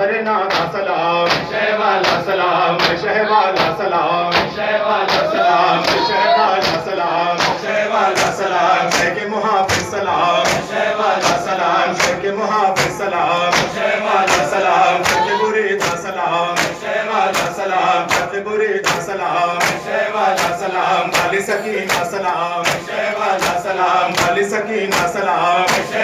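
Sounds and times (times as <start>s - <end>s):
lead reciter singing: 0.0s - 26.0s
men singing together: 0.0s - 26.0s
hands slapping chests: 1.3s - 3.0s, 3.6s - 6.0s, 6.6s - 12.2s, 12.8s - 26.0s.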